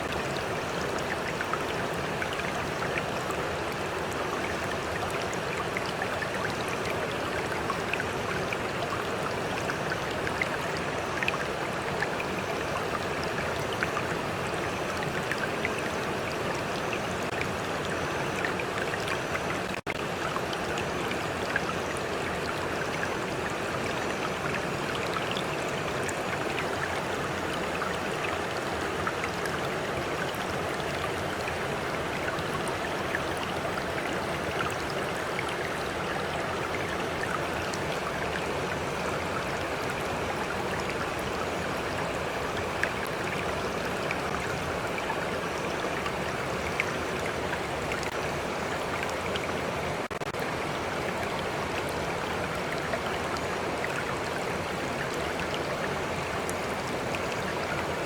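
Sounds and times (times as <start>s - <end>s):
stream running water: 0.0s - 58.0s.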